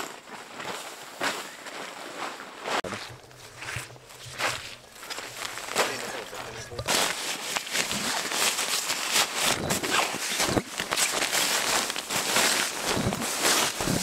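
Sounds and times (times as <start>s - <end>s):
nylon fabric rustling: 1.9s - 14.0s.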